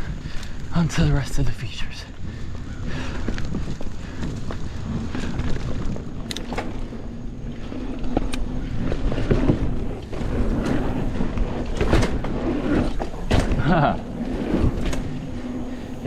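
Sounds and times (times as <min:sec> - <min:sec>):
bike rattling over bumps: 0:00.0 - 0:01.3, 0:02.0 - 0:16.0
bike tyre rumble on dirt: 0:00.0 - 0:16.0
wind on microphone: 0:00.0 - 0:16.0.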